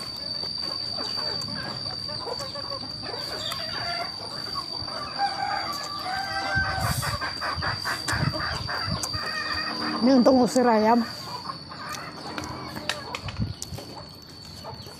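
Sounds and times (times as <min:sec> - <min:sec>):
chickens clucking: 0:00.0 - 0:14.9.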